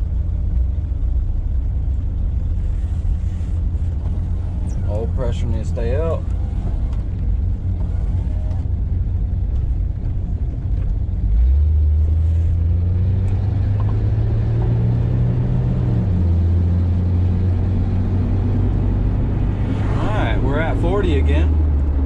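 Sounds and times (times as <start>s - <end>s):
car engine accelerating: 0.0s - 22.0s
road noise: 0.0s - 22.0s.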